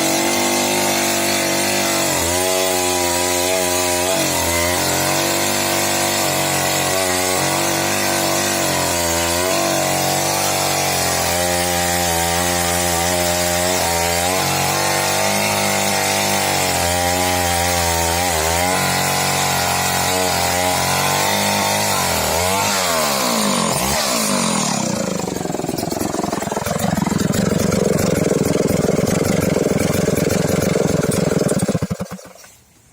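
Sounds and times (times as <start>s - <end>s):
chainsaw cutting wood: 0.0s - 32.7s.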